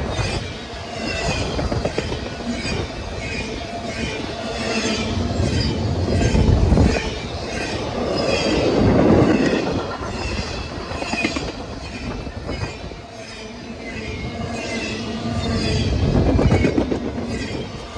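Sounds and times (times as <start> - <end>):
train wheels clattering on rails: 0.0 - 17.9.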